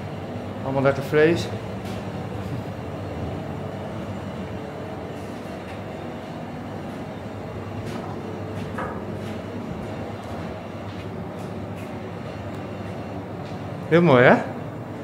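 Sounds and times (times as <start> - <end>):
low rumbling hum: 0.0 - 15.0.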